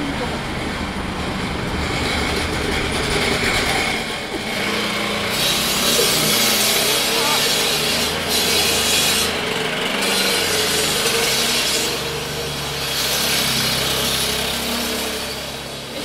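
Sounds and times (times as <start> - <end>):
power tool sawing: 0.0 - 16.0.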